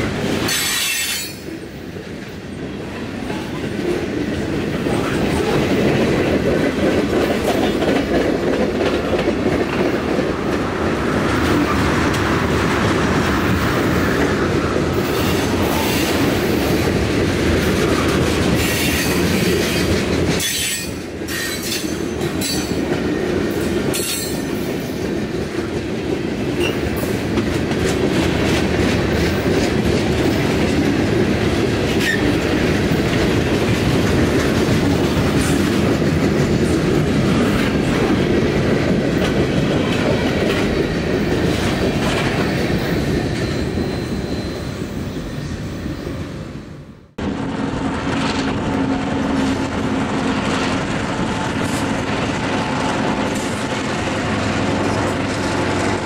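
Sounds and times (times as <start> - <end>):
heavy rumble of train wheels: 0.0 - 56.0.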